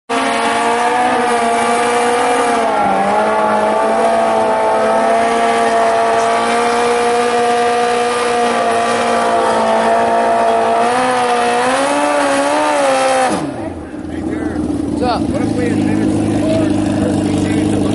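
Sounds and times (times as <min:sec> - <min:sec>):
motorcycle engine revving high: 0:00.1 - 0:17.9.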